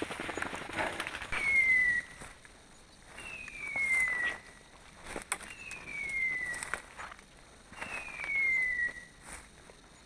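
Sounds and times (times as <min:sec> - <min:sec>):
twigs and leaves crackling underfoot: 0:00.0 - 0:10.0.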